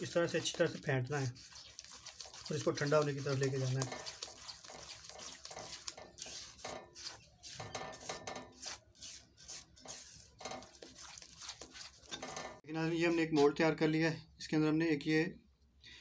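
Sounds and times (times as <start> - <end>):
spatula scraping metal pot: 0.0 - 13.5.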